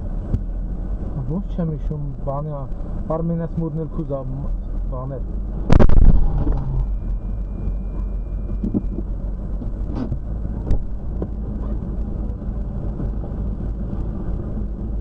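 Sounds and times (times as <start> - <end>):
car engine rumble: 0.0 - 15.0.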